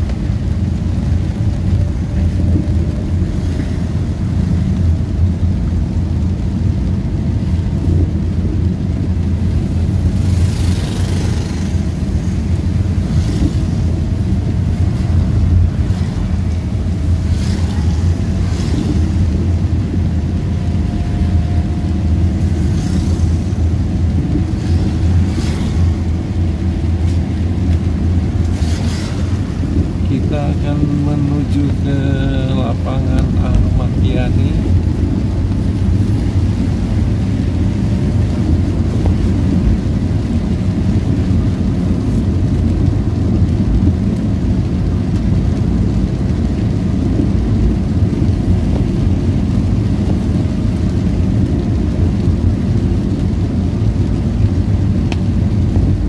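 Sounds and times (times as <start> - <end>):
engine and tyres rumbling: 0.0 - 56.0
passing vehicles hissing on wet road: 0.0 - 56.0.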